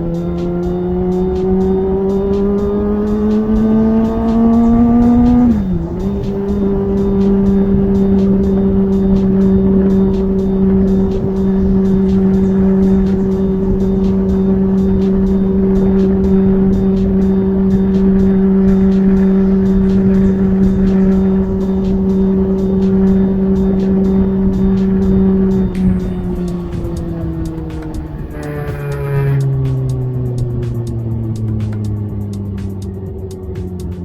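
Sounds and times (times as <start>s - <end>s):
motorcycle engine running steadily: 0.0s - 34.0s
wind rumble on microphone: 0.0s - 34.0s.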